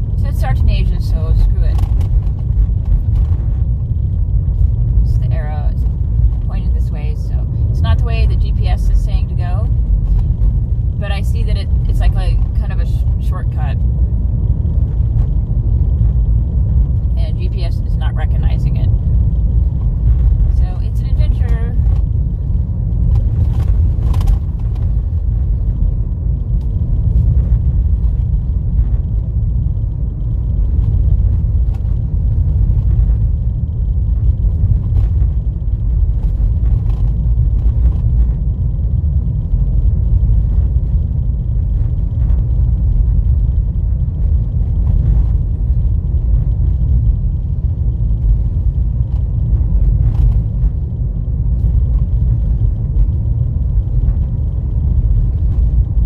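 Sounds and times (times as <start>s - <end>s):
tyres rumbling on dirt road: 0.0s - 56.0s.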